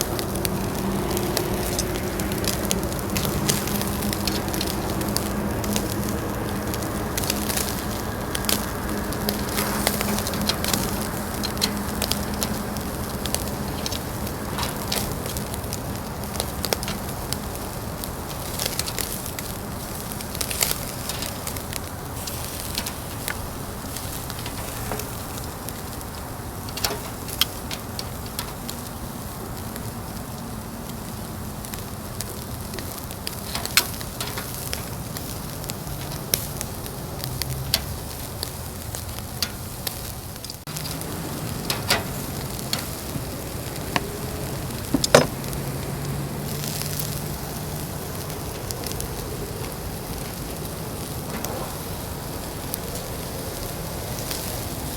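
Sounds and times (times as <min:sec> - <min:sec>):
fire crackling and popping: 0:00.0 - 0:54.9
food sizzling on a grill: 0:00.0 - 0:54.9.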